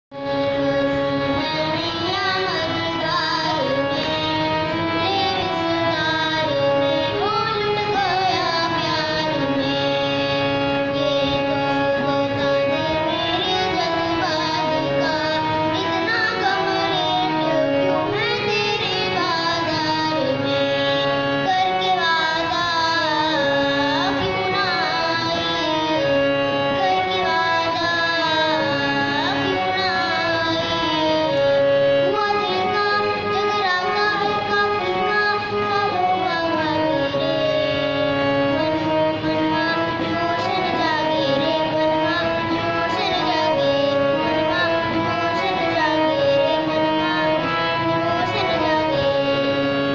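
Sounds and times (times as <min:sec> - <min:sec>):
harmonium: 0:00.0 - 0:49.9
boy singing: 0:00.1 - 0:49.9.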